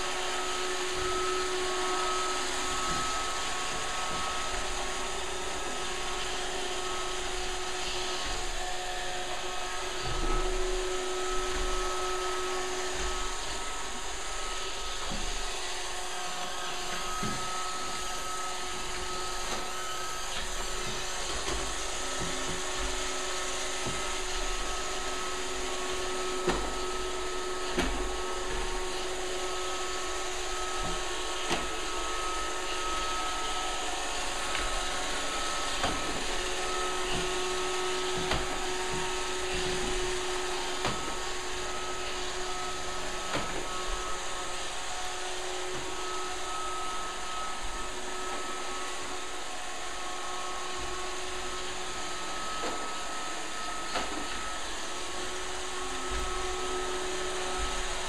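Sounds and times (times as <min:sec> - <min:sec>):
robot vacuum motor whirring: 0:00.0 - 0:58.0.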